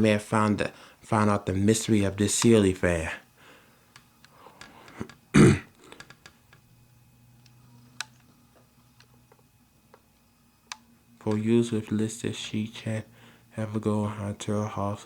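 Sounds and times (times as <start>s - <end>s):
weak low hum: 0.0s - 15.0s.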